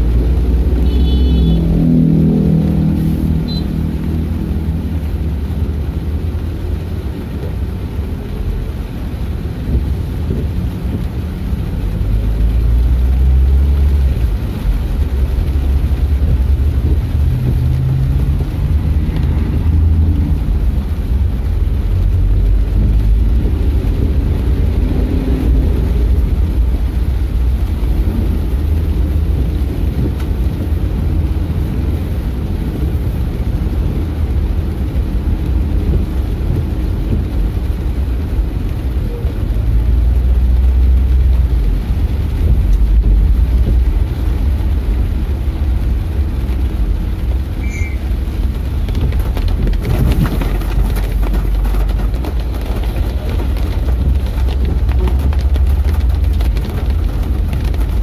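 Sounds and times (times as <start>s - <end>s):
car driving on wet road: 0.0s - 58.0s.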